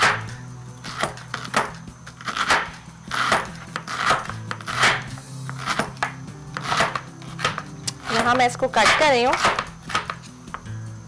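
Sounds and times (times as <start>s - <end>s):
knife cutting cabbage: 0.0s - 10.4s.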